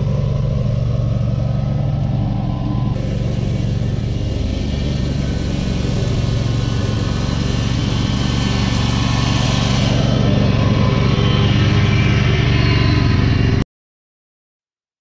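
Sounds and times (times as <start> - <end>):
mower engine running: 0.0 - 13.6.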